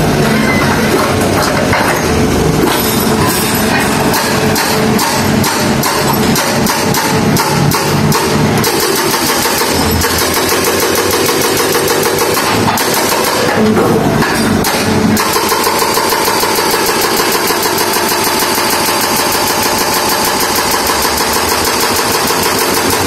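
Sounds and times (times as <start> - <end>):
diesel engine under load: 0.0 - 23.0.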